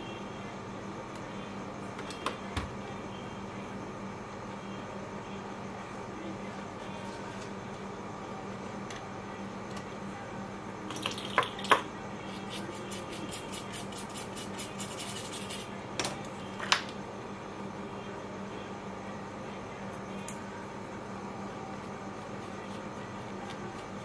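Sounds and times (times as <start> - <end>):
fan hum: 0.0 - 24.0.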